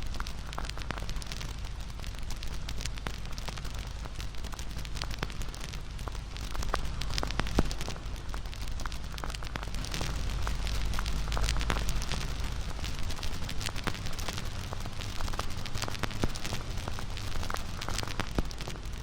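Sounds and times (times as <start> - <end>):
campfire crackling and popping: 0.0 - 19.0
low rumble of flames: 0.0 - 19.0.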